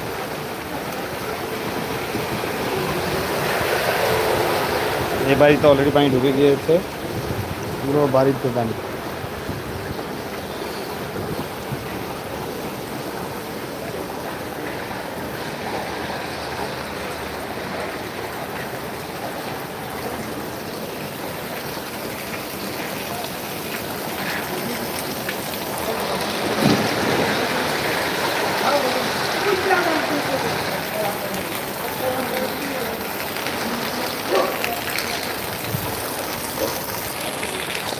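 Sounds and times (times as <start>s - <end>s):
rain falling on water: 0.0s - 37.9s.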